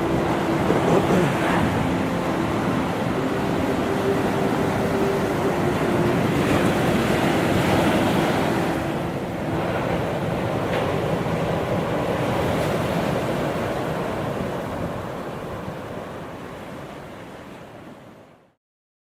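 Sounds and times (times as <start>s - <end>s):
ocean surf breaking: 0.0s - 18.1s.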